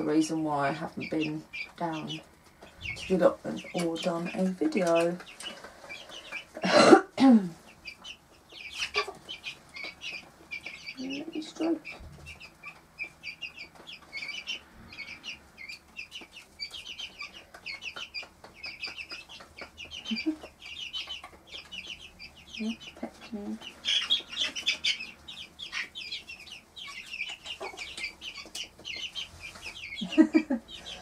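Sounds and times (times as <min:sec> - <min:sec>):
chicks cheeping: 0:00.0 - 0:31.0
hen clucking: 0:00.0 - 0:31.0.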